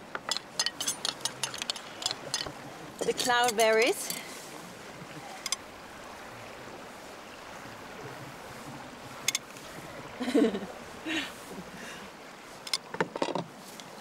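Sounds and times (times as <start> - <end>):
stream flowing: 0.0 - 14.0.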